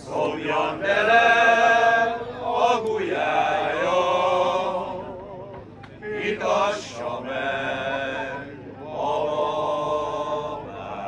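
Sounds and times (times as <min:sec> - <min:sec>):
men's choir singing: 0:00.0 - 0:11.0.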